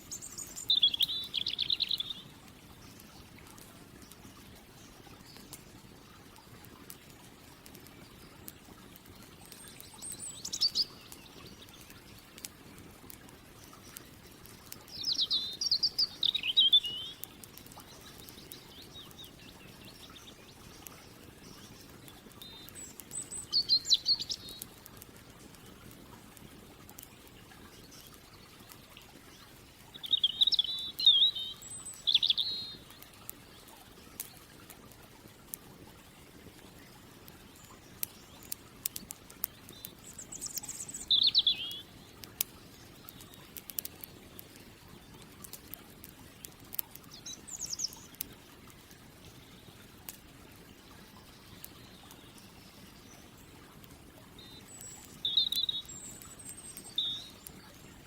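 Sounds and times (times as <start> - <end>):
songbird singing: 0.0 - 3.4, 7.9 - 12.9, 13.5 - 25.5, 27.1 - 34.5, 36.7 - 45.7, 46.4 - 48.3, 49.2 - 58.0
campfire crackling: 0.0 - 58.0.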